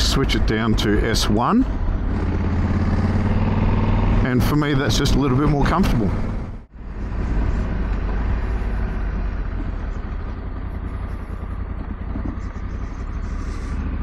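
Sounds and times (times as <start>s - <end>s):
tyre and wind rumble: 0.0s - 14.0s
motorcycle engine running: 1.6s - 14.0s.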